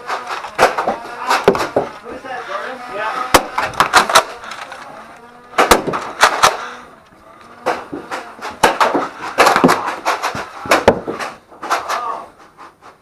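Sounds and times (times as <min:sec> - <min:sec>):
sharp plastic clacks and knocks: 0:00.0 - 0:02.0, 0:03.3 - 0:13.0.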